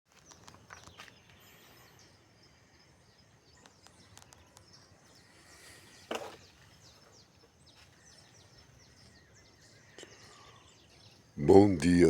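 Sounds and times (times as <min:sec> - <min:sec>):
faint birds chirping: 0:00.1 - 0:12.0
quiet outdoor background noise: 0:00.1 - 0:12.0.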